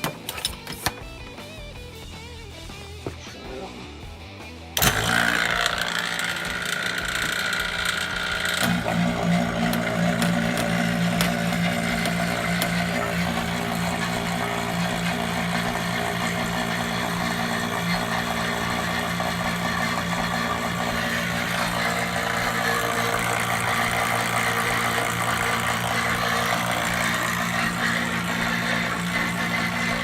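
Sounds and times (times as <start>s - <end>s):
vacuum pump motor humming: 4.8s - 30.0s.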